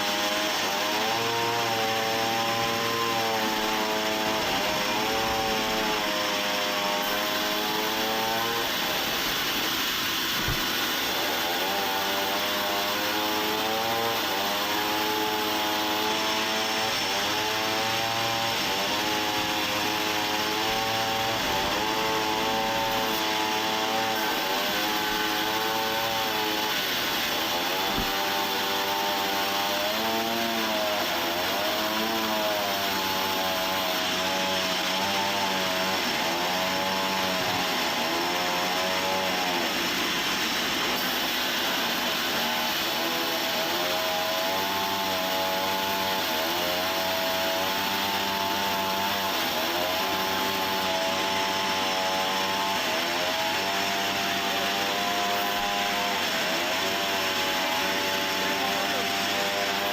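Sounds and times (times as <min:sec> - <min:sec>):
hiss of saw cutting: 0:00.0 - 0:59.9
sawmill saw motor: 0:00.0 - 0:59.9.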